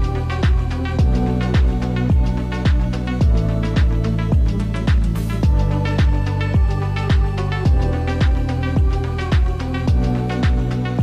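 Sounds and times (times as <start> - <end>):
electronic kick drum: 0.0 - 11.0.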